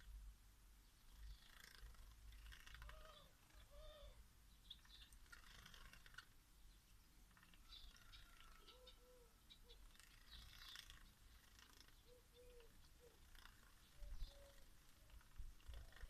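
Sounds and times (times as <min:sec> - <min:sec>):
soft bird calls: 0:00.8 - 0:16.0.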